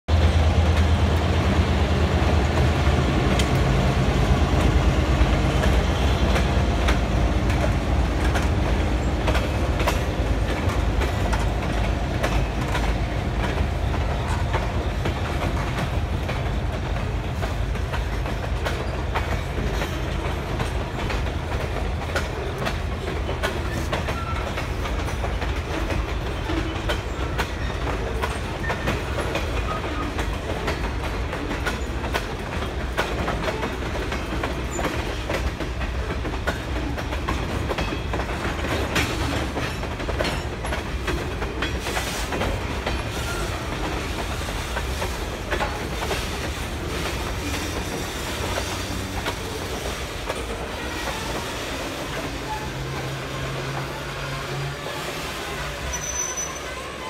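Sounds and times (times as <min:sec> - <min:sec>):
diesel locomotive engine hum: 0:00.1 - 0:57.0
wheels clicking over rail joints: 0:02.4 - 0:54.9.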